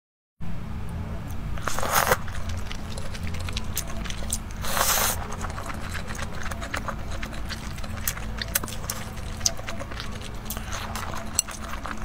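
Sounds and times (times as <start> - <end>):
juicy slurp: 1.6 - 12.0
lip smacks and mouth clicks: 1.6 - 12.0
wet chewing: 1.6 - 12.0.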